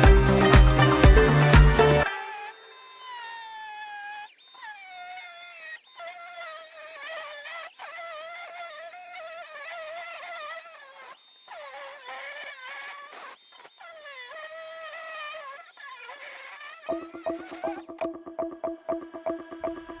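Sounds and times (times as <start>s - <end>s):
power tool motor whining: 0.0s - 17.9s.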